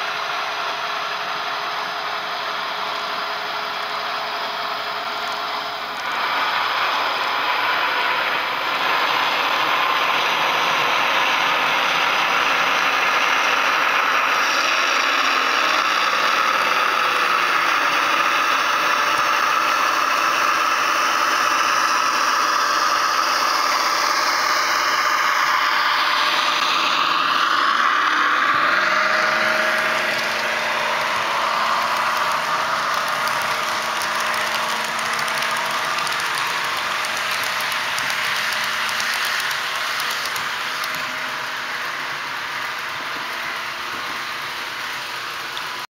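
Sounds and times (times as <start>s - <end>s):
model train rattling on track: 0.0s - 45.8s
model train diesel engine sound: 0.0s - 45.9s.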